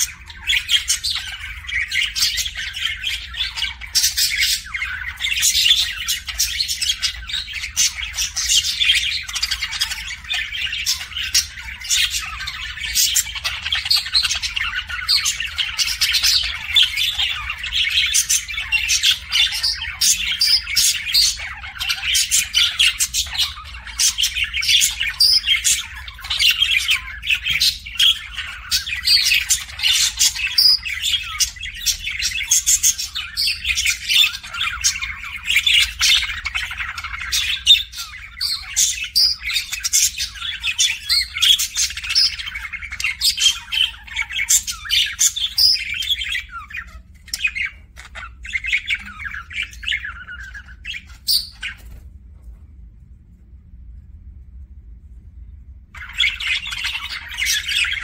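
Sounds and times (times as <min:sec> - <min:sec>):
budgerigars chattering: 0:00.0 - 0:52.0, 0:56.0 - 0:58.0.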